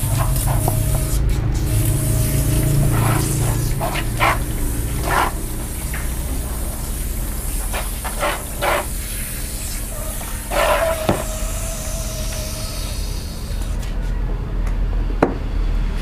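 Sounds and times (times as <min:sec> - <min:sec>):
hose water splashing: 0:00.0 - 0:14.0.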